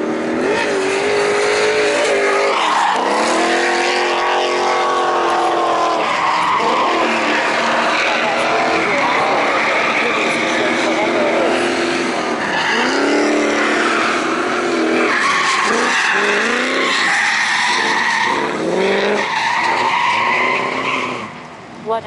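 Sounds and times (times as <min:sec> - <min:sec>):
car engines revving: 0:00.0 - 0:22.0
tyres squealing: 0:00.6 - 0:21.4.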